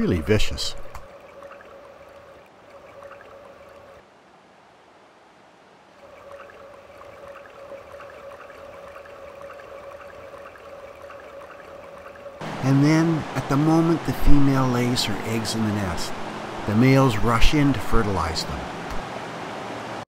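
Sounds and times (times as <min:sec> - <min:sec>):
river water gurgling: 0:00.0 - 0:04.1, 0:05.2 - 0:20.0.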